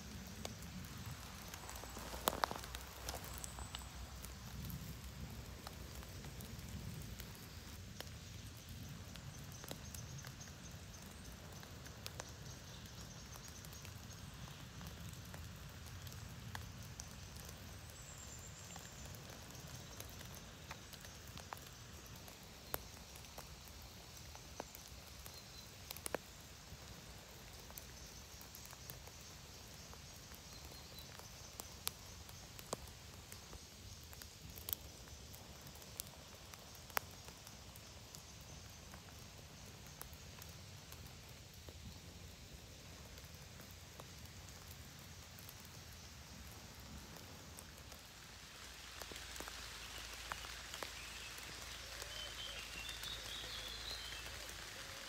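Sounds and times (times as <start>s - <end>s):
rain background wash: 0.0s - 55.0s
raindrops ticking: 0.0s - 55.0s.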